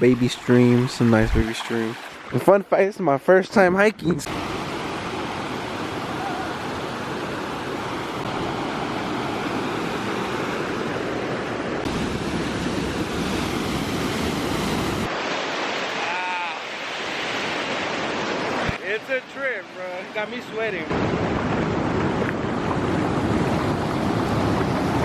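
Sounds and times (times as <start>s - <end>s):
stream water rushing: 0.0s - 2.9s, 4.2s - 25.0s.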